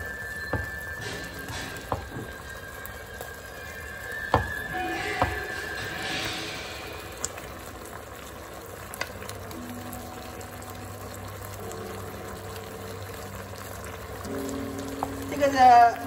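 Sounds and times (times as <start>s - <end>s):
gravy bubbling and sizzling in wok: 0.0s - 16.0s.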